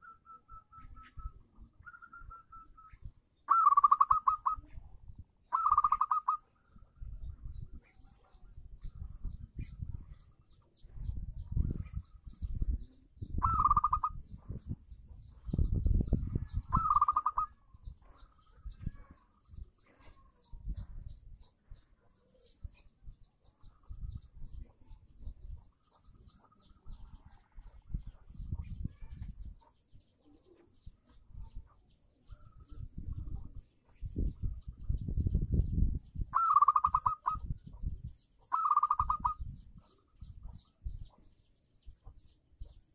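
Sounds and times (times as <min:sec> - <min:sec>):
dove trilled coo calls: 0:00.0 - 0:04.9, 0:05.5 - 0:10.2, 0:10.8 - 0:35.3, 0:36.2 - 0:41.3.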